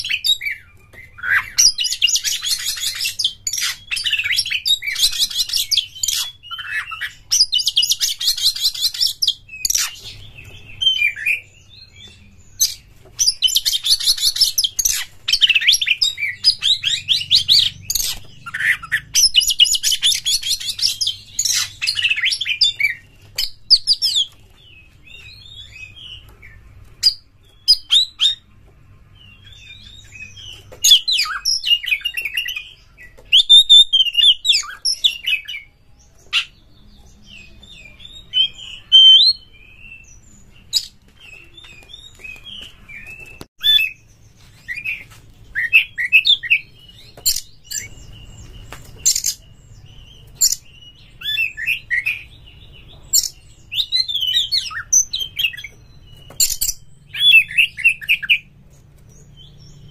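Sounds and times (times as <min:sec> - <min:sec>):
bird singing trills and whistles: 0:00.0 - 0:28.5, 0:29.2 - 0:59.9.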